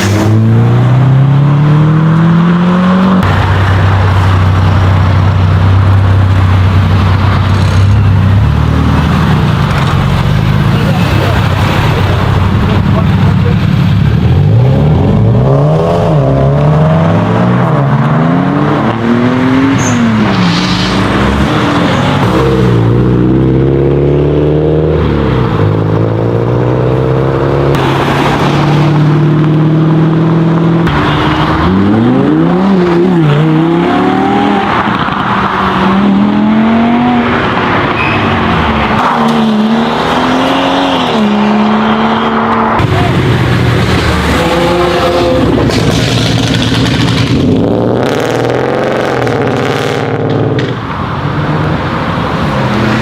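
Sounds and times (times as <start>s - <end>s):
sports car engines revving: 0.0s - 53.0s.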